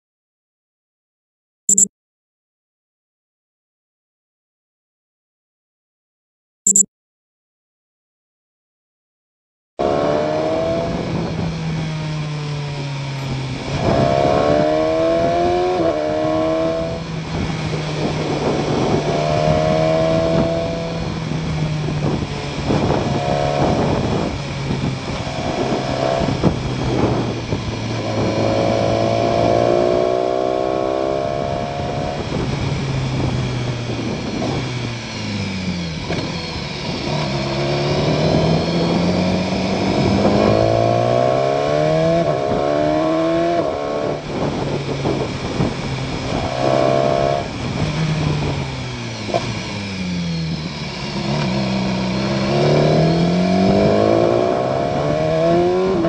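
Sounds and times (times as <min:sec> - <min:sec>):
motorcycle engine revving: 0:09.8 - 0:56.0
wind and road noise: 0:09.8 - 0:56.0.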